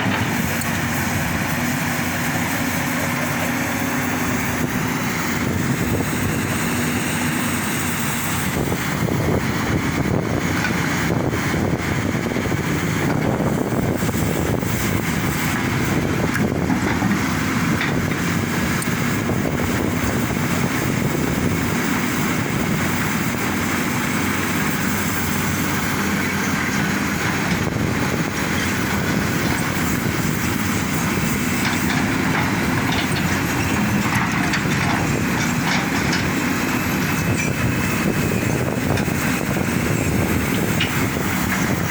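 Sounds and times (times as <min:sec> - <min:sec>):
diesel engines running: 0:00.0 - 0:41.9.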